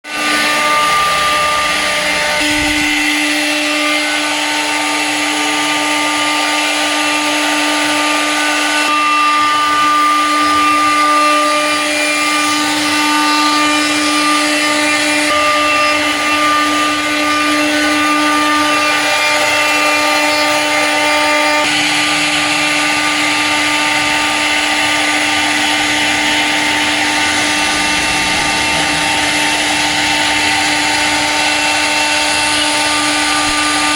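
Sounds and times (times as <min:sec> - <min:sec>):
lathe motor whine: 0:00.1 - 0:33.9.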